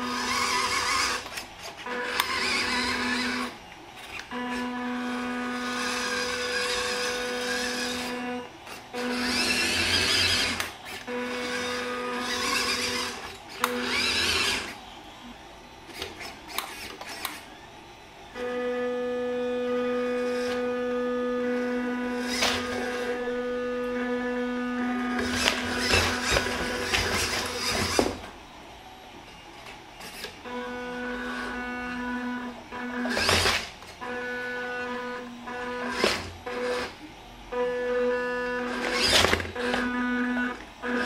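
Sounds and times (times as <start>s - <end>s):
toy truck electric motor whining: 0.0s - 14.8s, 15.9s - 17.5s, 18.4s - 28.2s, 30.0s - 37.0s, 37.6s - 41.0s.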